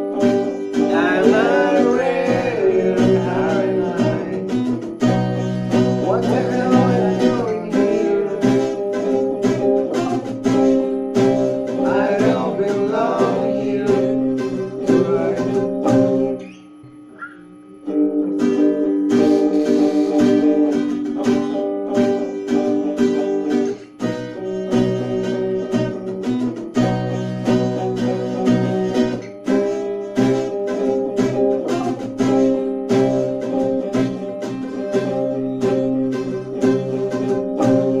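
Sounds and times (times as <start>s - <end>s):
acoustic guitar: 0.0s - 38.0s
electric guitar: 0.0s - 38.0s.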